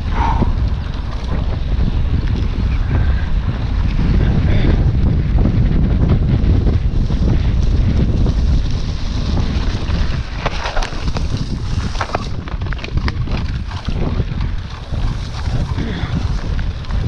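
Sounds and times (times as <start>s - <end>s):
bike rattling over bumps: 0.0s - 17.0s
bike tyres rumbling on grass: 0.0s - 17.0s
wind buffeting microphone: 0.0s - 17.0s.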